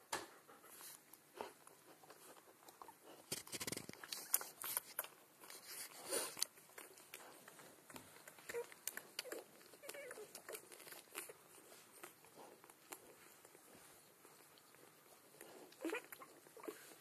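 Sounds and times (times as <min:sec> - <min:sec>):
puppies suckling: 0:00.6 - 0:17.0.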